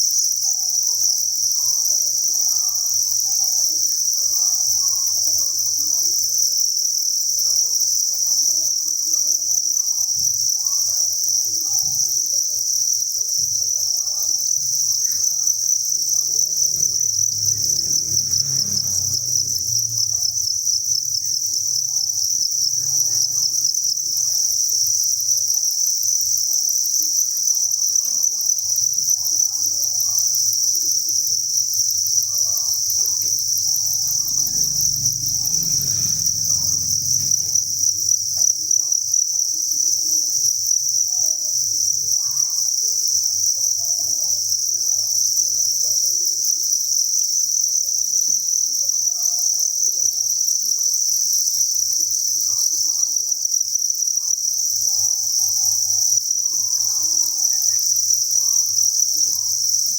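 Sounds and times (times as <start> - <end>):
crickets chirping in chorus: 0.0 - 59.9.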